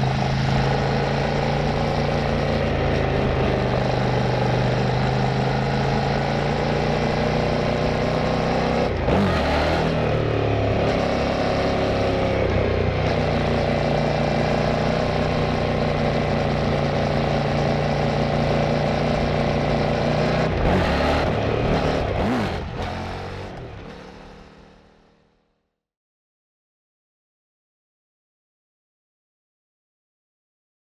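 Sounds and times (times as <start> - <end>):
motorcycle engine and exhaust: 0.0 - 25.6.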